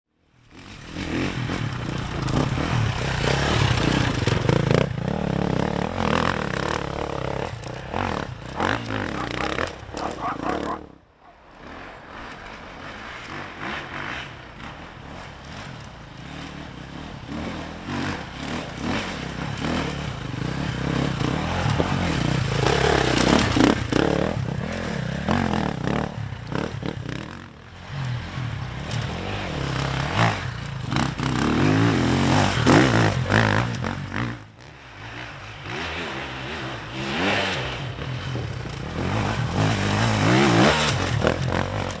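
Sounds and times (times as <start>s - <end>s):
motorcycle engine revving: 0.4s - 42.0s.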